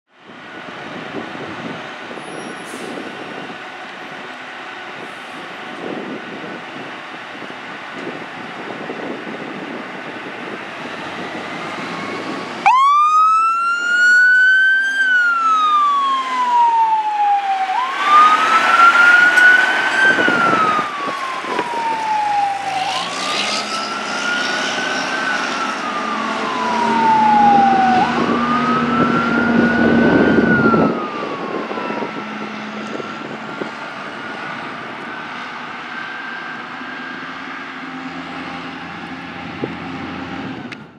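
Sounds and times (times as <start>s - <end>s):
road noise: 0.1s - 40.9s
fire truck siren wailing: 0.2s - 40.9s
truck engine: 0.2s - 40.9s.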